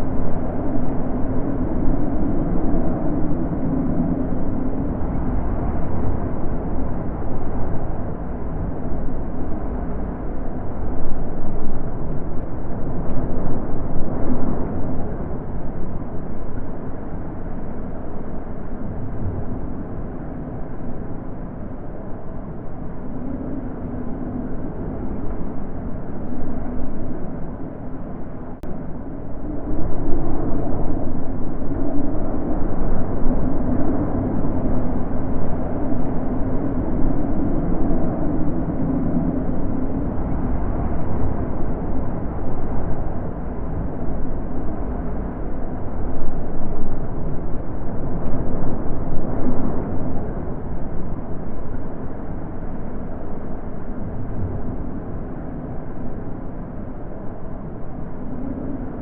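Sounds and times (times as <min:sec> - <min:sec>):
wind blowing in gusts: 0:00.0 - 0:59.0.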